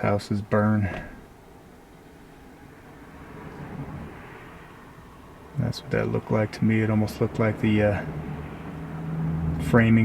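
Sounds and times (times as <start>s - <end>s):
faint background rumble and hiss: 0.0s - 10.0s.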